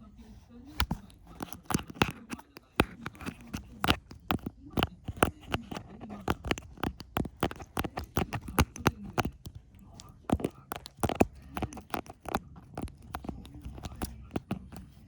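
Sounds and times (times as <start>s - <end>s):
kitten teeth and claws scratching: 0.0s - 15.0s.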